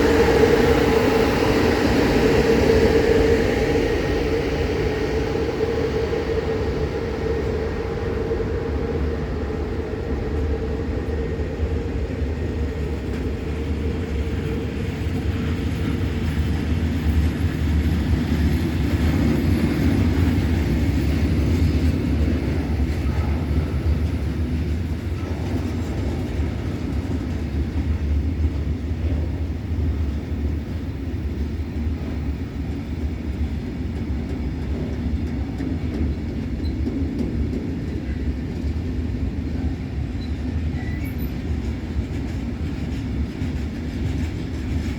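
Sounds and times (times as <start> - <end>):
freight train rolling past: 0.0 - 44.9.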